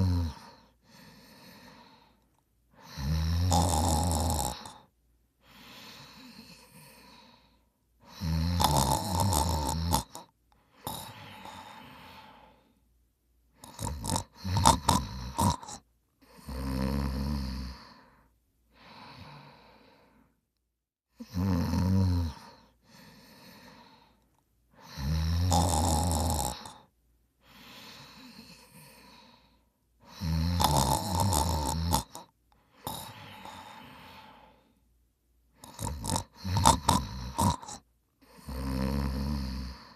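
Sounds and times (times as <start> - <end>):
person snoring: 0.0 - 2.2, 2.8 - 12.7, 13.6 - 20.2, 21.2 - 24.2, 24.8 - 34.8, 35.6 - 39.9.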